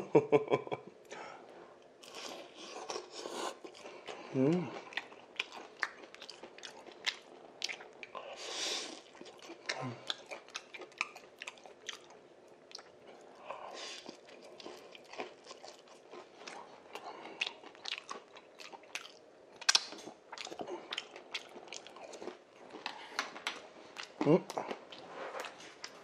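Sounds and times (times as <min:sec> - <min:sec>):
person chewing with wet smacks: 0:02.0 - 0:26.0.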